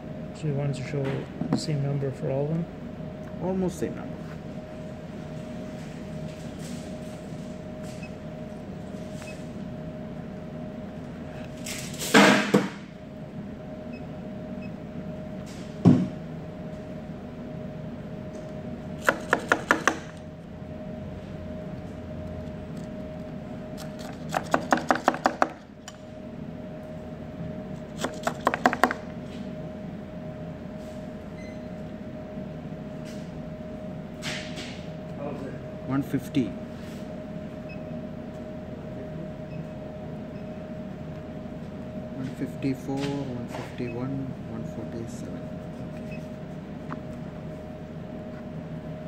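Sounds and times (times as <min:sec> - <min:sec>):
room hum with whine: 0:00.0 - 0:49.0.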